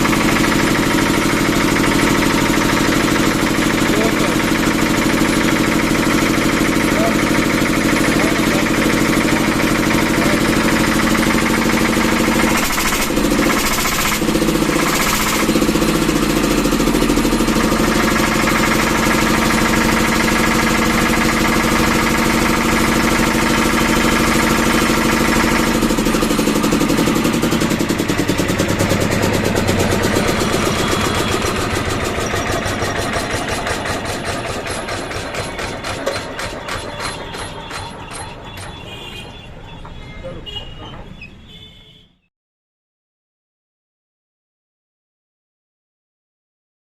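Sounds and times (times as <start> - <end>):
diesel generator engine running: 0.0 - 41.0.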